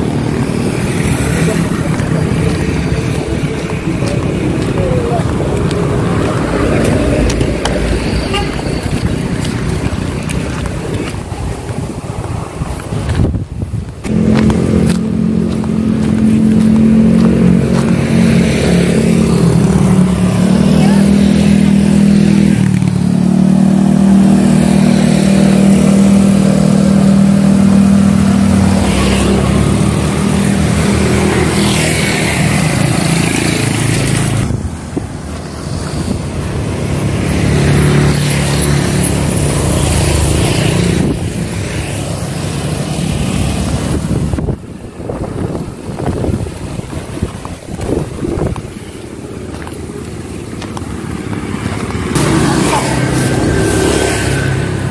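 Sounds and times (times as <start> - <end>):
vehicle engine humming: 0.0 - 54.9.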